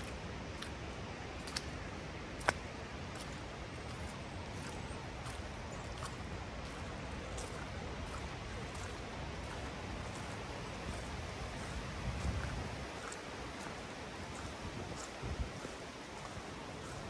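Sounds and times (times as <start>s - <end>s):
background hiss: 0.0s - 17.0s
footsteps on muddy path: 0.0s - 17.0s.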